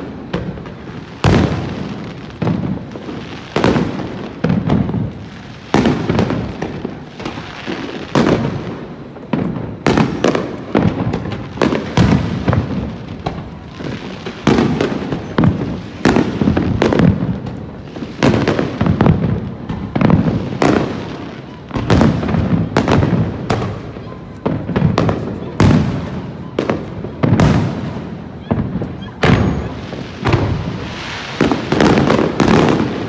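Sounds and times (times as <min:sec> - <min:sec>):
fireworks booming with echo: 0:00.0 - 0:33.0.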